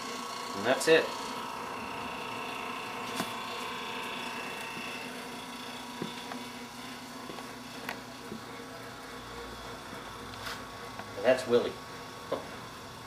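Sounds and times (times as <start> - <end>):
refrigerator humming: 0.0 - 13.0.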